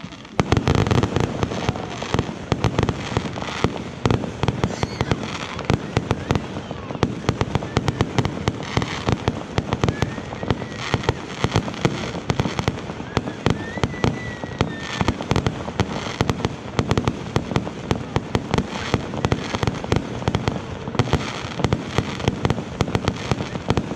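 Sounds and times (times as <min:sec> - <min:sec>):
fireworks bangs and crackles: 0:00.0 - 0:23.9.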